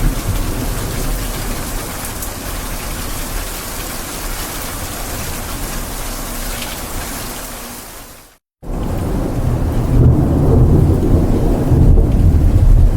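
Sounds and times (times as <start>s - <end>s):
rain pouring: 0.0s - 12.9s.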